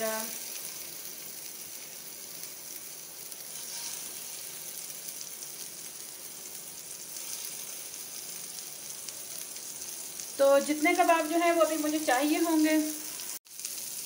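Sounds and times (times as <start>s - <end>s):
kebabs sizzling in frying pan: 0.0s - 14.0s.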